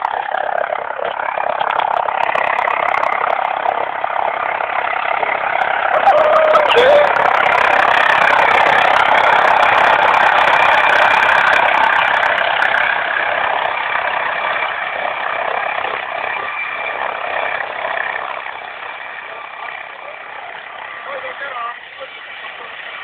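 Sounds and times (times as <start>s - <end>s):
helicopter engine and rotor: 0.0s - 23.0s.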